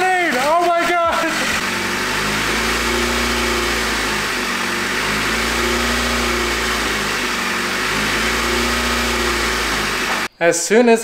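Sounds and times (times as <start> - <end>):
car engine idling and surging: 0.0 - 10.3.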